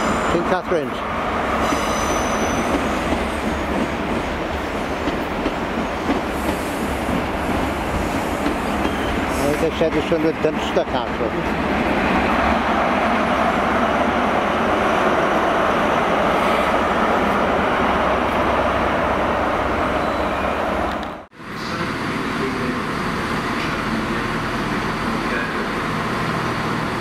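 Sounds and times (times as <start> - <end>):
diesel train passing: 0.0 - 27.0
low train hum: 0.0 - 27.0.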